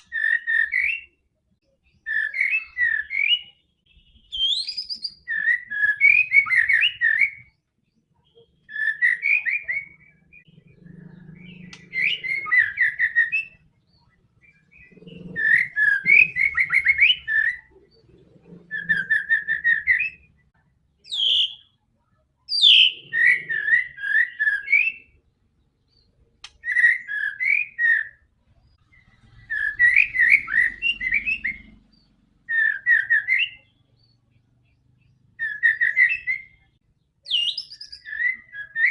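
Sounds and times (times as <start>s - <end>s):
bird singing whistled notes: 0.0s - 1.2s, 1.8s - 21.8s, 22.5s - 34.2s, 34.9s - 38.9s.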